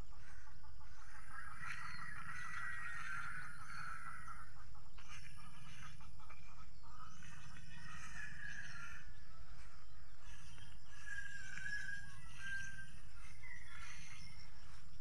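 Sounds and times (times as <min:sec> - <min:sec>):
faint high wavering calls: 0:00.0 - 0:15.0.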